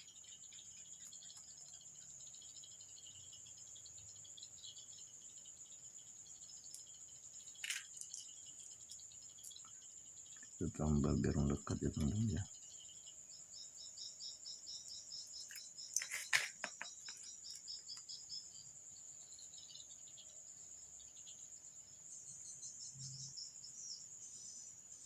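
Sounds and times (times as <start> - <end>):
high-pitched insect chirping: 0.0 - 25.0.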